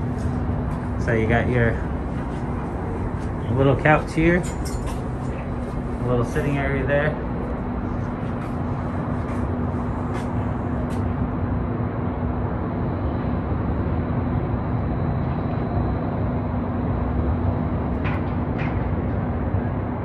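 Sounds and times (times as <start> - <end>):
steady low hum: 0.0 - 20.0
wind rumbling on microphone: 0.0 - 20.0.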